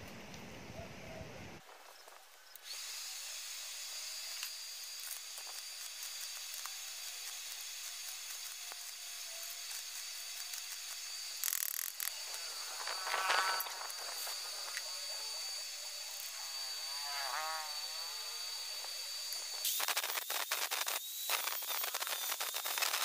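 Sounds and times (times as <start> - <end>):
welding arc crackling: 1.6 - 23.0.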